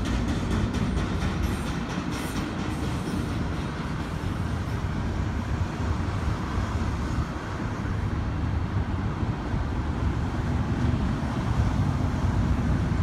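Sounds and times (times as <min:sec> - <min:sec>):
freeway traffic: 0:00.0 - 0:13.0
freight train rumbling past: 0:00.0 - 0:13.0.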